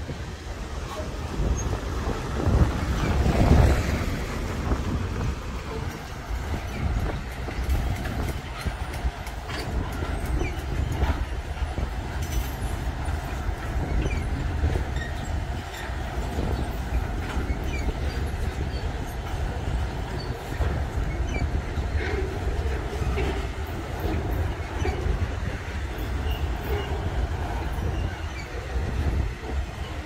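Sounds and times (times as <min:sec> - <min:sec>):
train rumbling past: 0:00.0 - 0:30.0
wheels clicking on rails: 0:00.0 - 0:30.0.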